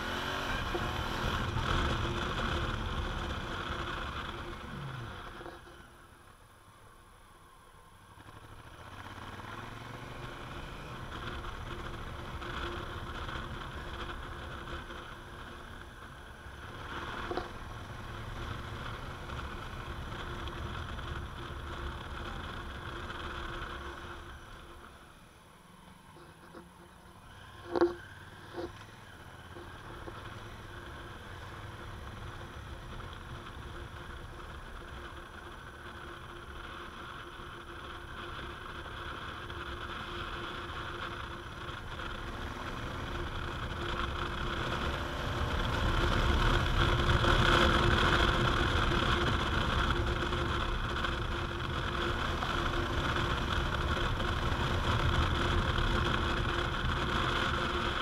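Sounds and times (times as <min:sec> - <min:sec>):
motorcycle engine accelerating: 0:00.0 - 0:06.0, 0:08.0 - 0:58.0
wind and road noise: 0:00.0 - 0:58.0.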